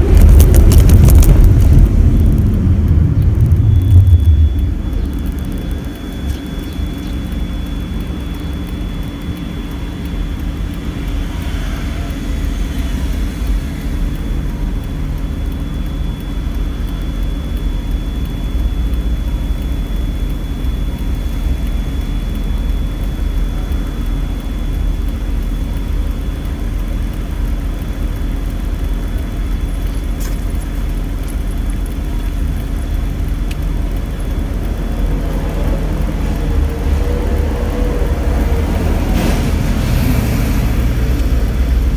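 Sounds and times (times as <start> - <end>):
car engine droning: 0.0 - 41.9.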